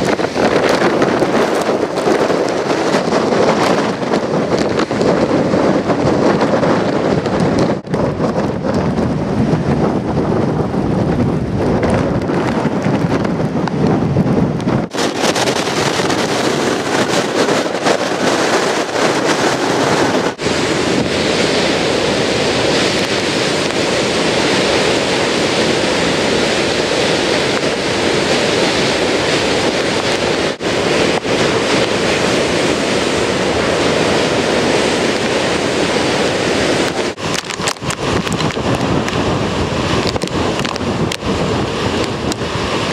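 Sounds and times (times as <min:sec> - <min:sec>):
heavy surf breaking on rocks: 0:00.0 - 0:42.9
wind buffeting microphone: 0:00.0 - 0:42.9.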